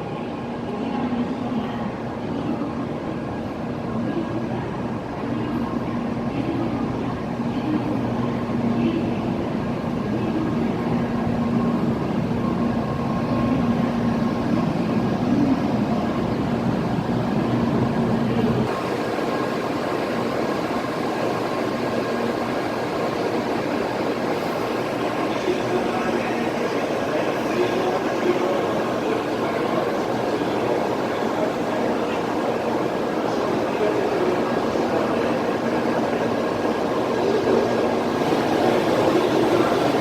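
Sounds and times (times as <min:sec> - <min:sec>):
high-speed train rushing: 0:00.0 - 0:40.0.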